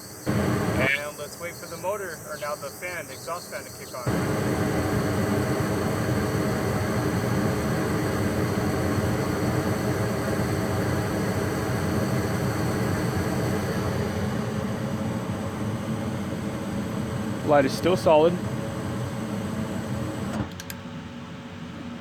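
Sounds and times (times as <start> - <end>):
furnace fan rushing air: 0.0 - 22.0
low hum: 0.2 - 20.4.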